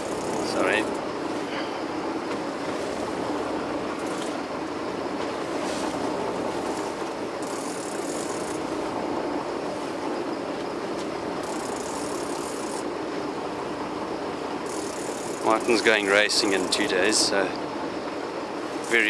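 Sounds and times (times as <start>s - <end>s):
boat engine droning: 0.0s - 19.0s
water noise: 0.0s - 19.0s.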